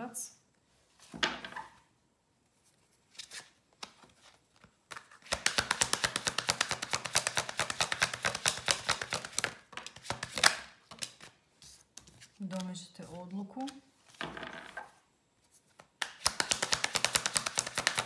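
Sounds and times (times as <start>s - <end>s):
cards being shuffled: 2.6s - 14.8s, 15.4s - 18.0s.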